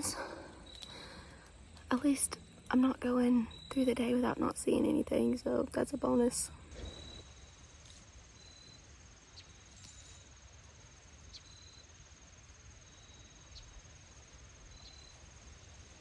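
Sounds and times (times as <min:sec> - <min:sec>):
insects trilling: 0:00.0 - 0:16.0
low insect chirps: 0:00.0 - 0:16.0.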